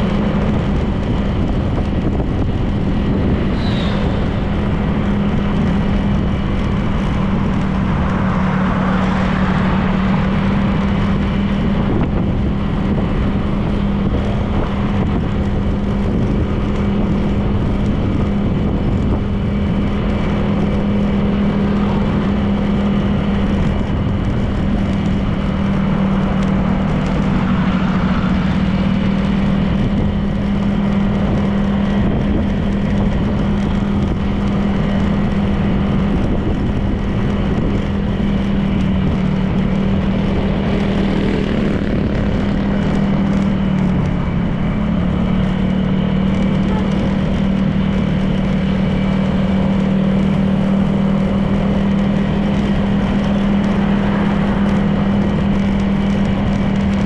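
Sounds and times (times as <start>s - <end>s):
road and wind noise: 0.0s - 57.0s
scooter engine running: 0.0s - 57.0s.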